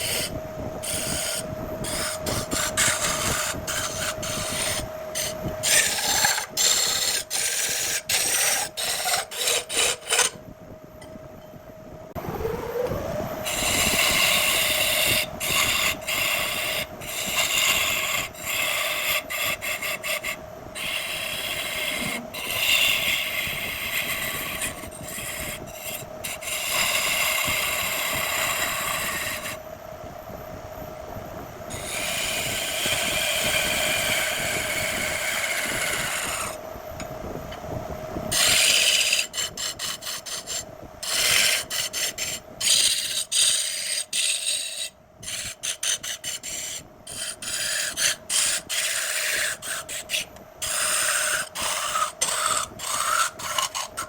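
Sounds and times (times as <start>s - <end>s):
turning tool cutting wood: 0.0s - 10.4s, 13.5s - 29.6s, 31.7s - 36.6s, 38.3s - 54.0s
wood lathe motor hum: 0.0s - 10.4s, 13.4s - 29.6s, 31.7s - 36.6s, 38.3s - 54.0s.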